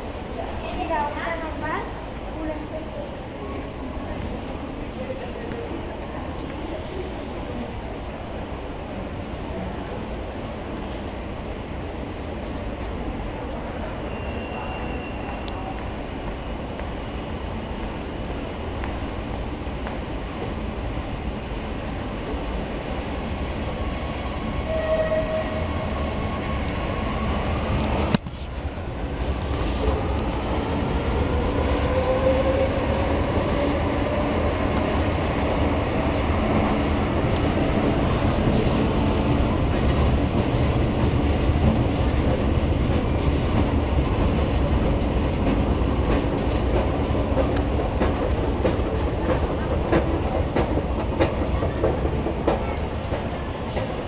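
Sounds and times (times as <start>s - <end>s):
rising train whine: 0.0s - 54.0s
train rumbling: 0.0s - 54.0s.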